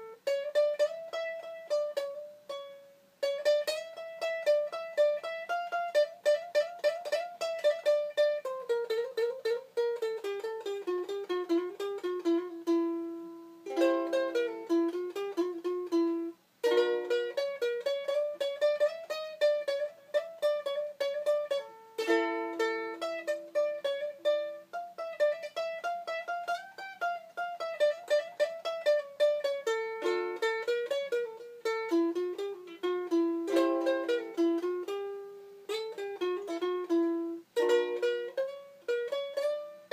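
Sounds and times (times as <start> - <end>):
ukulele melody and chords: 0.0 - 39.9.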